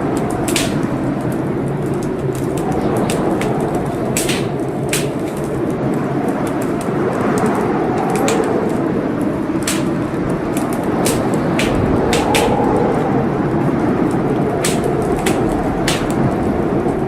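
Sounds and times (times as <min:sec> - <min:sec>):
steady rushing noise: 0:00.0 - 0:17.0
wood fire crackling and popping: 0:00.0 - 0:17.0.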